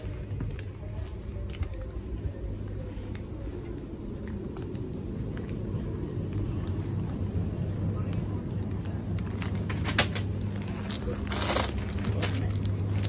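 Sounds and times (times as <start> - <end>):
train carriage rumble and hum: 0.0 - 13.0.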